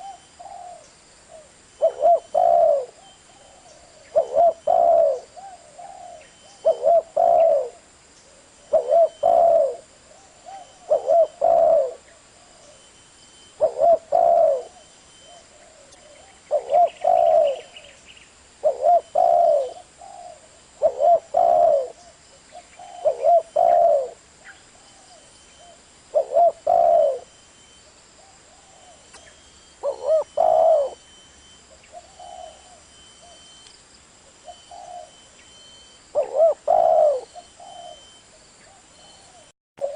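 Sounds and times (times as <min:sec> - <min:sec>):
dove cooing: 0:00.0 - 0:12.8, 0:13.5 - 0:18.0, 0:18.6 - 0:27.3, 0:28.2 - 0:33.5, 0:34.4 - 0:35.5, 0:36.1 - 0:39.9.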